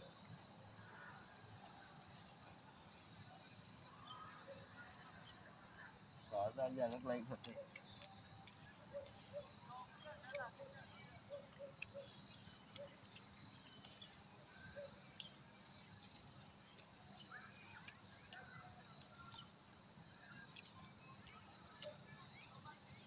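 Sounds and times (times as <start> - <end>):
crickets chirping faintly: 0.0 - 23.0.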